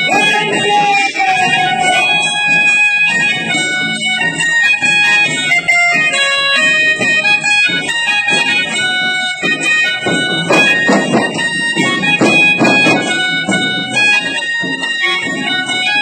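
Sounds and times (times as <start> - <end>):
folk melody of held notes: 0.0 - 16.0
frame drum beats: 0.0 - 16.0.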